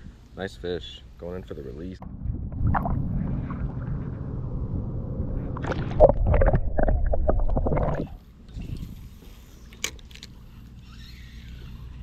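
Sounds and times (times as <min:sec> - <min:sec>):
low water and wind background: 0:00.0 - 0:12.0
underwater sloshing and gurgling: 0:02.0 - 0:12.0.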